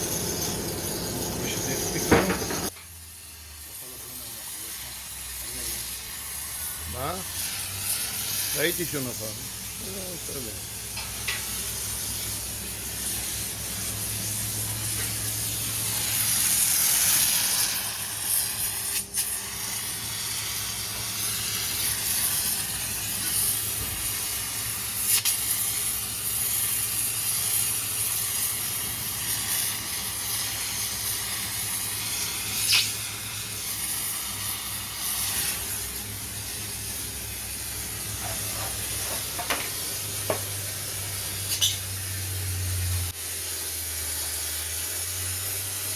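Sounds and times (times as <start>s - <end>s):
gas flame hissing: 0.0s - 45.9s.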